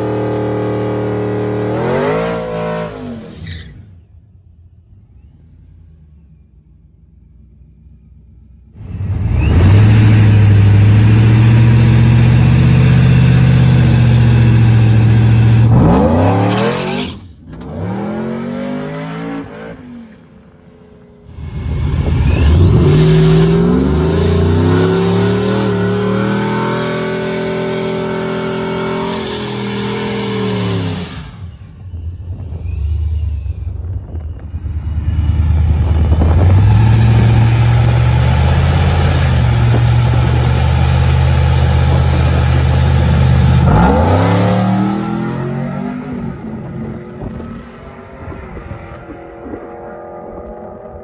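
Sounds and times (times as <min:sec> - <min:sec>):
truck engine revving: 0:00.0 - 0:04.1, 0:08.8 - 0:20.4, 0:21.3 - 0:48.0.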